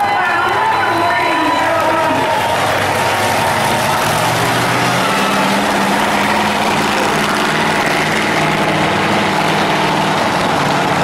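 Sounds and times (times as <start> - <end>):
heavy engine idling: 0.0 - 11.0
noisy arena wash: 0.6 - 11.0.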